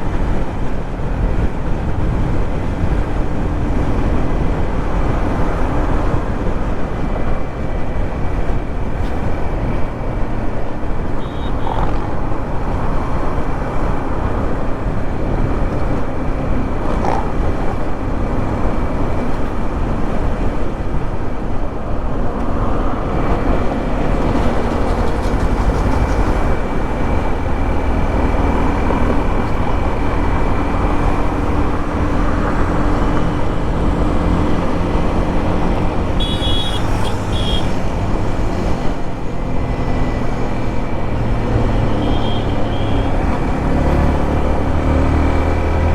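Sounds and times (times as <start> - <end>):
motorcycle engine and exhaust: 0.0 - 45.9
wind and road noise: 0.0 - 45.9.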